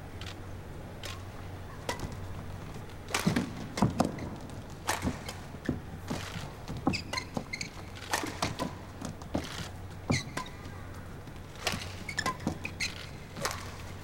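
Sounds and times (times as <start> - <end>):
shoes squeaking on court: 1.1 - 14.0
racket striking shuttlecock: 1.8 - 14.0.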